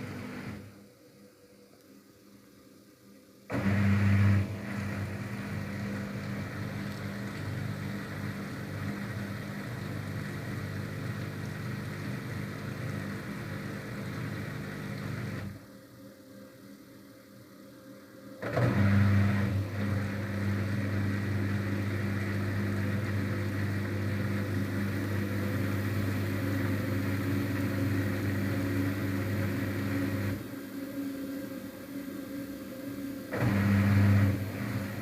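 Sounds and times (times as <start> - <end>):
washing machine motor humming: 3.5 - 15.7, 18.4 - 35.0.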